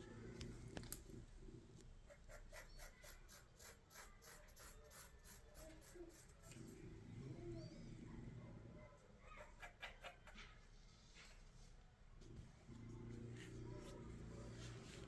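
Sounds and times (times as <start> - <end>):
faint rhythmic scratching: 0.0 - 15.0.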